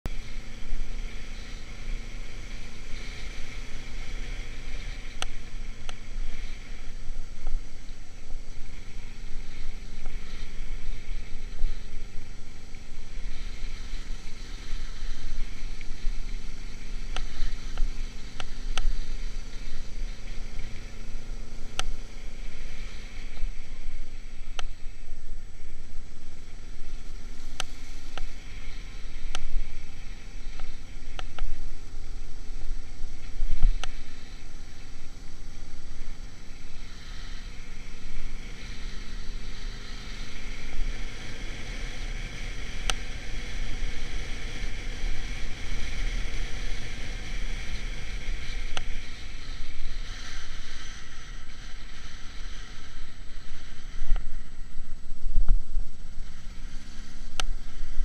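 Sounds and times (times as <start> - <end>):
motorcycle engine cruising: 0.0 - 58.0
wind rumble on microphone: 0.0 - 58.0.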